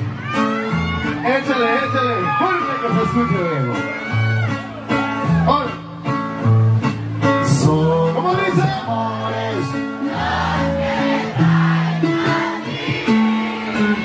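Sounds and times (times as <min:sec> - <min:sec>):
live band with singing: 0:00.0 - 0:14.0.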